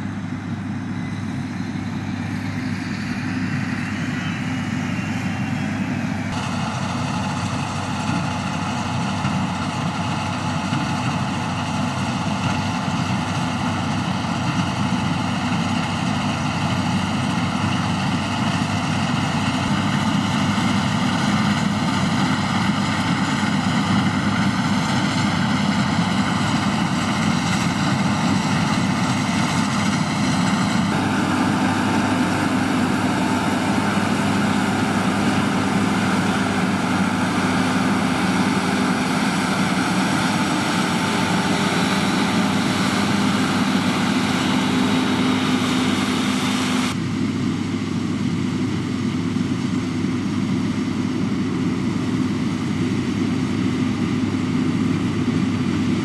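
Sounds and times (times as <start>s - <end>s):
combine harvester engine hum: 0.0s - 56.0s.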